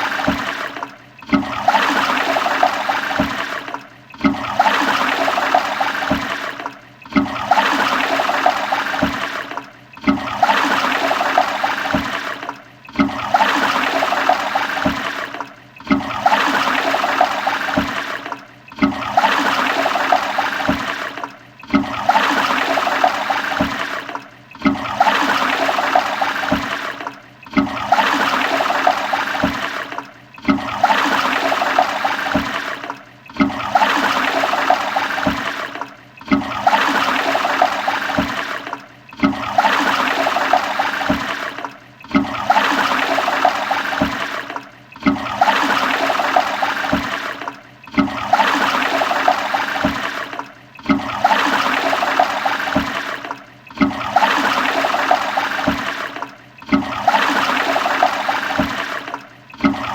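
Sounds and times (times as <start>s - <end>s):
toilet flushing: 0.0s - 59.9s.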